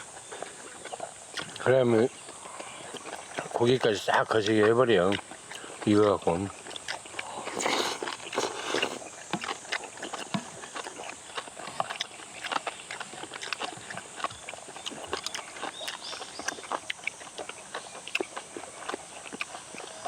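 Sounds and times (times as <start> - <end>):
people chewing and lip-smacking: 0.0 - 20.0.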